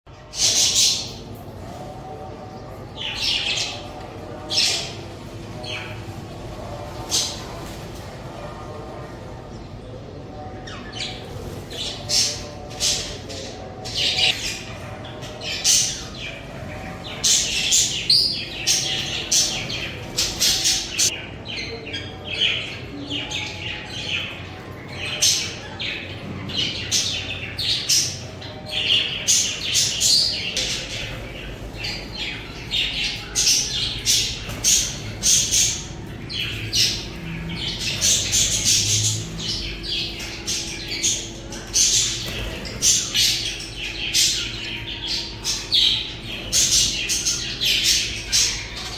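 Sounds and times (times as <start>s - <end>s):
budgerigars chirping and squawking: 0.1s - 48.9s.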